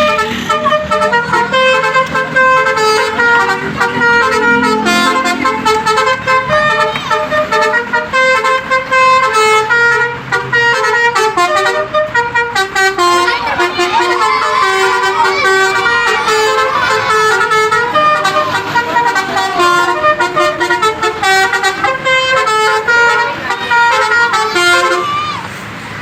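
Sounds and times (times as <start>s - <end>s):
multi-tone bus air horn melody: 0.0s - 26.0s.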